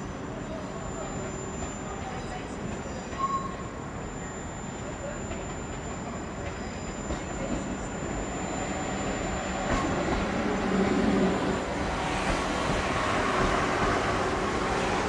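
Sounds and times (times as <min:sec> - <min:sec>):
train rumbling through station: 0:00.0 - 0:15.0.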